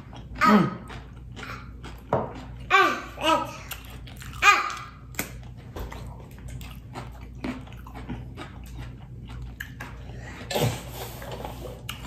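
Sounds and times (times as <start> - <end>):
person chewing and biting: 0.0 - 2.7, 3.5 - 12.0.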